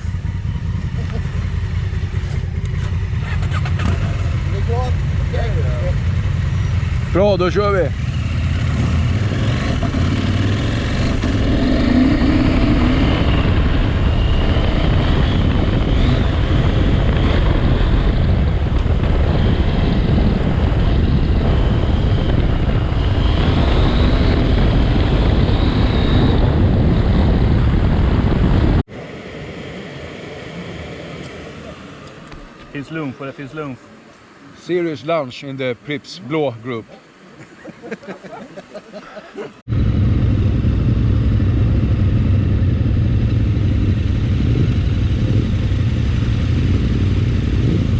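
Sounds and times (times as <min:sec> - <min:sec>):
motorcycle engine drone: 0:00.0 - 0:34.7, 0:39.4 - 0:47.9.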